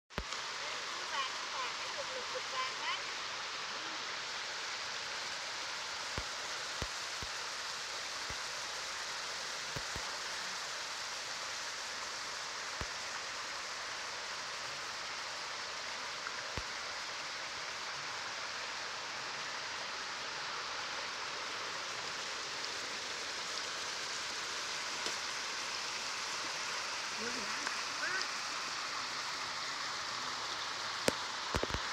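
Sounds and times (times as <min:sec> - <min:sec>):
stream rippling over pebbles: 0:00.1 - 0:31.9.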